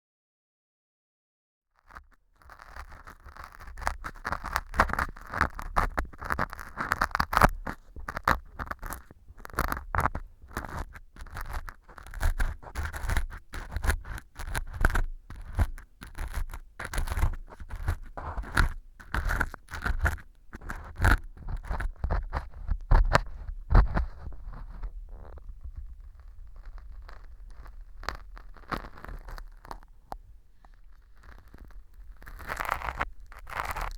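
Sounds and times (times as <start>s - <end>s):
ear pick scraping and crunching: 1.8s - 33.9s.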